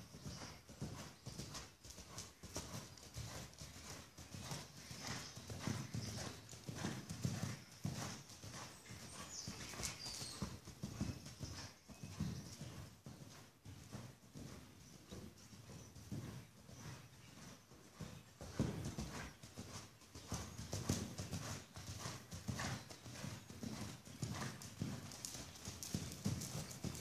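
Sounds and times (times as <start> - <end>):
horse hoofbeats cantering on dirt: 0.0 - 27.0.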